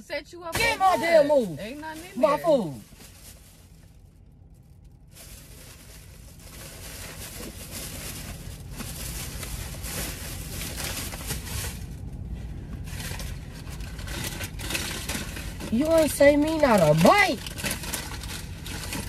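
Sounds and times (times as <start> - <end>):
low steady hum: 0.0 - 19.0
paper and plastic bags rustling: 0.6 - 19.0.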